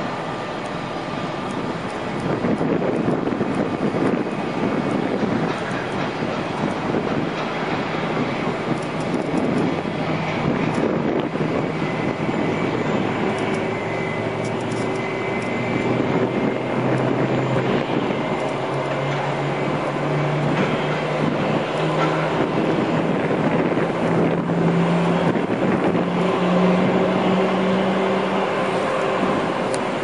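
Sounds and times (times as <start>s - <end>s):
aircraft engine drone: 0.0s - 30.0s
wind on microphone: 0.0s - 30.0s.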